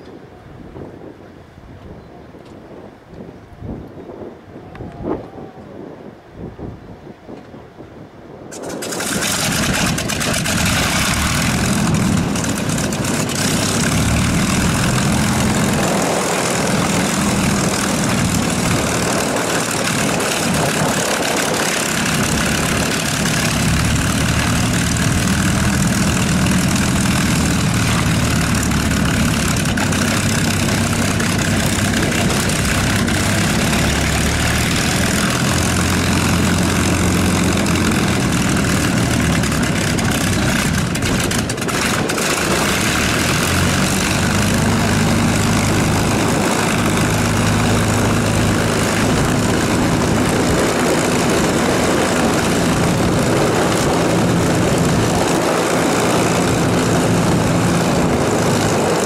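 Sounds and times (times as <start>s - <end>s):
aircraft piston engine idling: 8.5s - 59.0s.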